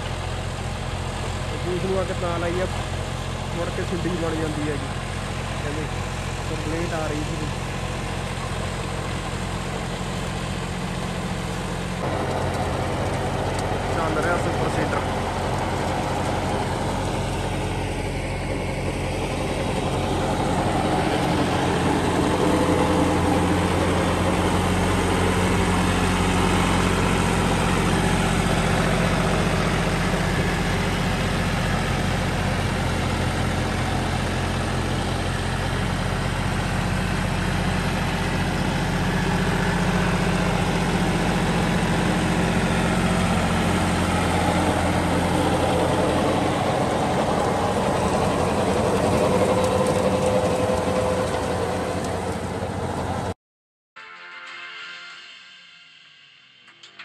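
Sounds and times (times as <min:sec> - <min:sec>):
tractor diesel engine running: 0:00.0 - 0:53.4.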